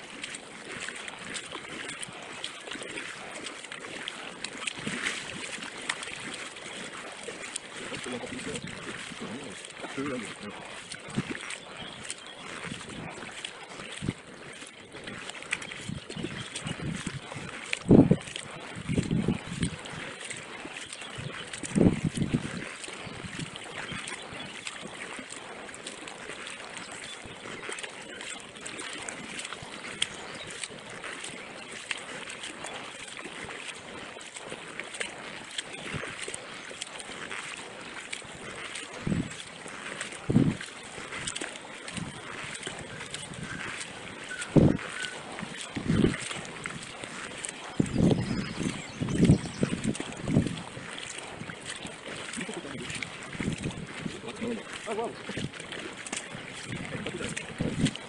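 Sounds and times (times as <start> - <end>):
kayak paddle strokes in water: 0.0 - 58.0
water dripping from paddle: 0.0 - 58.0.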